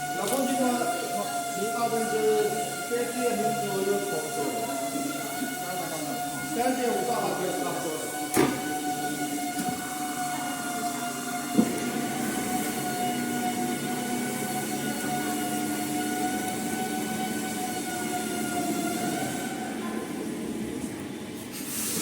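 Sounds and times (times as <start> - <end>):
milling cutter whining: 0.0 - 21.2.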